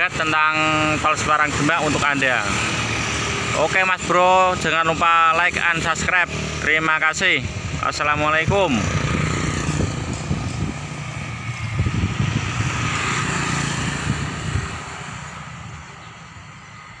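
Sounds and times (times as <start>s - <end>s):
motorcycles passing: 0.0s - 17.0s.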